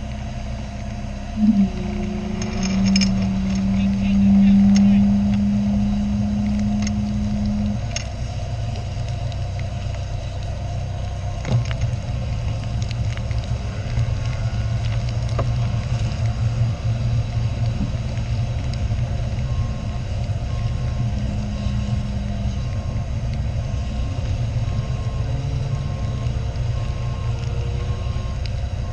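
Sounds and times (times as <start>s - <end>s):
race car engine at low revs: 0.0s - 28.9s
steady low hum: 0.0s - 28.9s.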